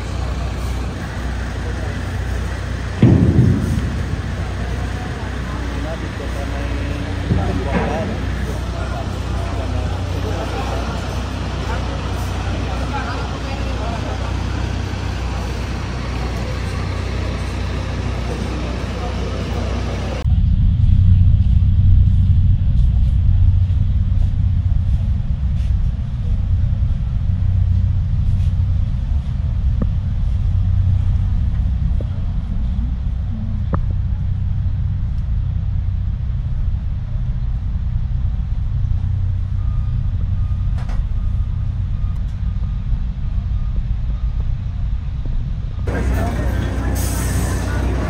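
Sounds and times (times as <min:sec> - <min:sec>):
low ferry engine rumble: 0:00.0 - 0:48.0.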